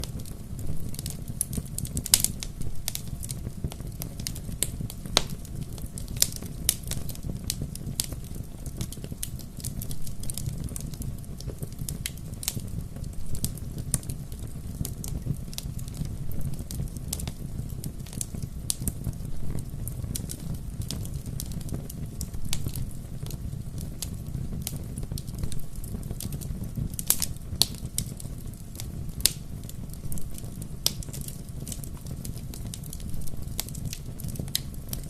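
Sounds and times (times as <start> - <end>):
bonfire crackling: 0.0 - 35.0
low rumble of burning: 0.0 - 35.0.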